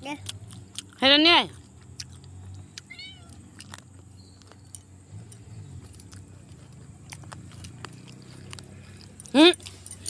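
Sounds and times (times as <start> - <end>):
faint crunching of food: 0.0 - 10.0.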